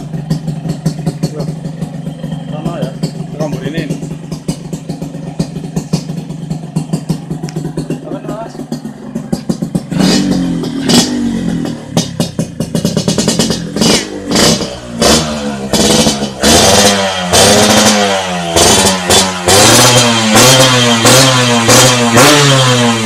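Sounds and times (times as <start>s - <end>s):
exhaust crackling: 0.0s - 23.0s
motorcycle engine revving: 0.0s - 23.0s.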